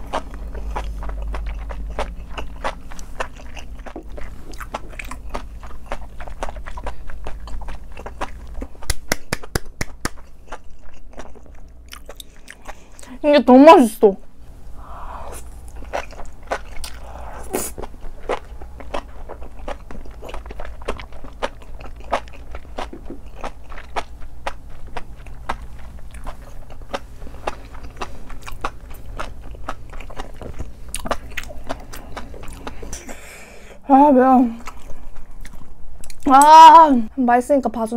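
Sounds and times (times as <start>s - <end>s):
close chewing of food: 0.0s - 13.2s, 14.8s - 36.5s.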